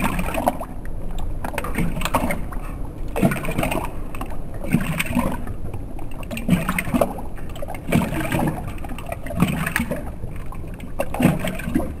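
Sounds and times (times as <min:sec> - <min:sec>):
dog lapping water from bowl: 0:00.0 - 0:12.0.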